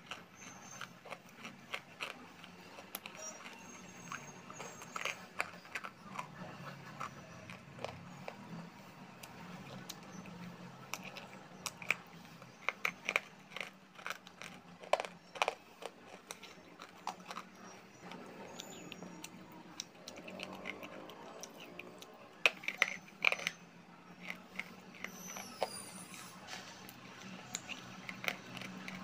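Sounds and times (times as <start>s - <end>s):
person chewing hard clay: 0.0s - 29.0s.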